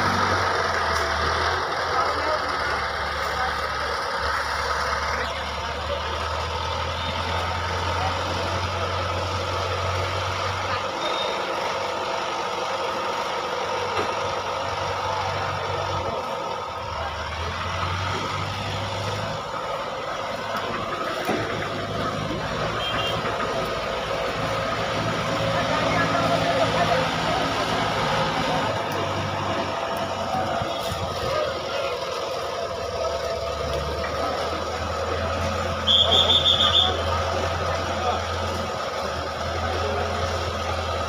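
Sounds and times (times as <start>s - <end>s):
crane engine humming: 0.0s - 41.0s
murmur of crowd talking: 0.0s - 41.0s.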